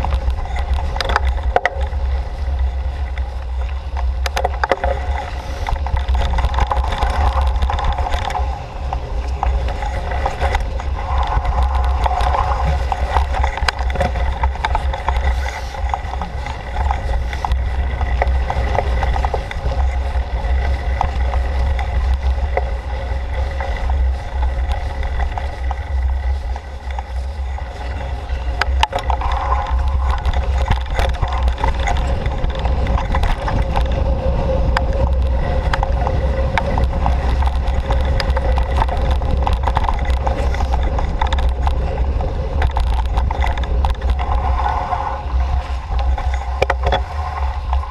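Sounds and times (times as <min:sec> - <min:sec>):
bicycle rattles and clicks: 0:00.0 - 0:47.9
bicycle tyres rolling on trail: 0:00.0 - 0:47.9
wind rumble on microphone: 0:00.0 - 0:47.9.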